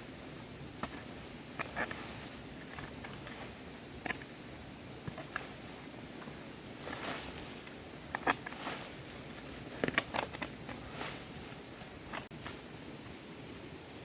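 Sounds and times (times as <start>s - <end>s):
high-pitched insect trill: 0.0s - 14.0s.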